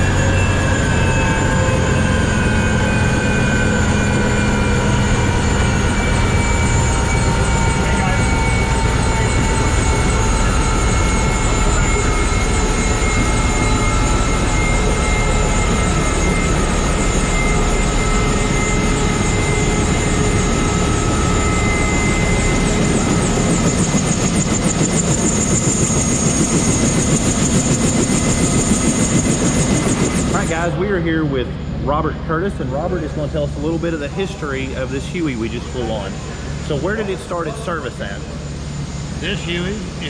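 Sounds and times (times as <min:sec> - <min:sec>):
helicopter rotor and engine noise: 0:00.0 - 0:40.0
helicopter turbine whine: 0:00.0 - 0:40.0.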